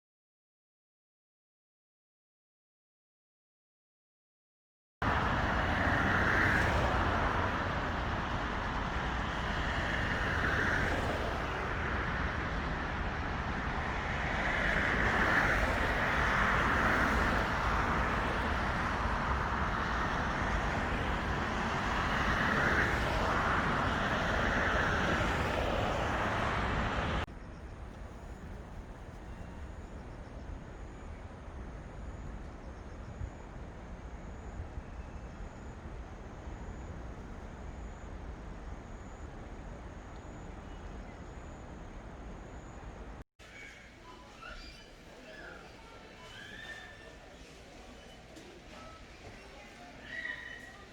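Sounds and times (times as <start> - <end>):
vehicles passing: 5.0 - 32.4, 36.7 - 50.9
steady traffic rumble: 5.0 - 50.9.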